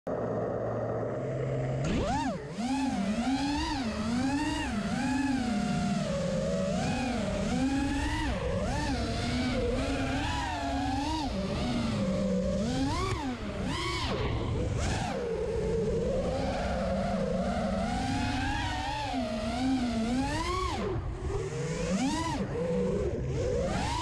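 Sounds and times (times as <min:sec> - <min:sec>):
drone motors whining: 0:00.1 - 0:24.0.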